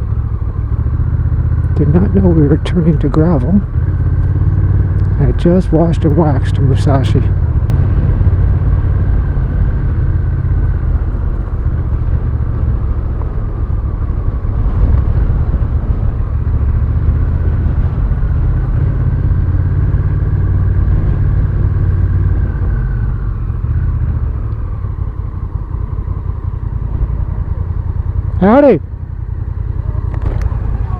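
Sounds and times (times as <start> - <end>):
motorcycle engine running: 0.0 - 30.9
wind and road noise: 0.0 - 30.9.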